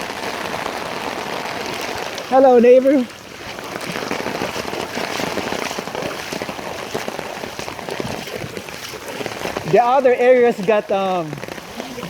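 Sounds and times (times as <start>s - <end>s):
person wading through water: 0.0s - 12.0s.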